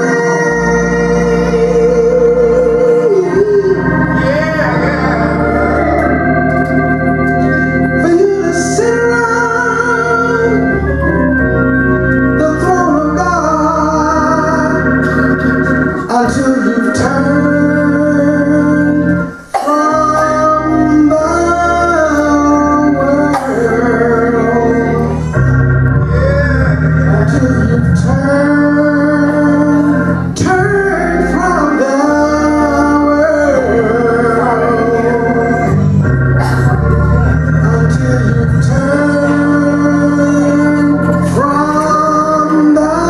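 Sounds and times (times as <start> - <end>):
man singing gospel: 0.0 - 43.0
organ chords: 0.0 - 43.0.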